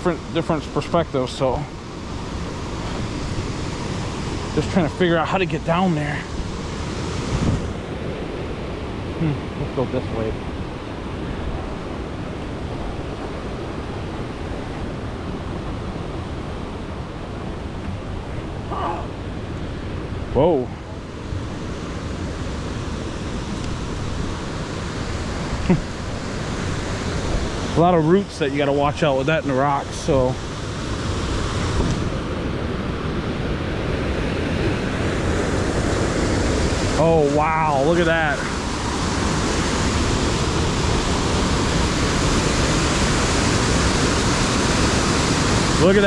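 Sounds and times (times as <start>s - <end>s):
water rushing over waterfall: 0.1s - 46.0s.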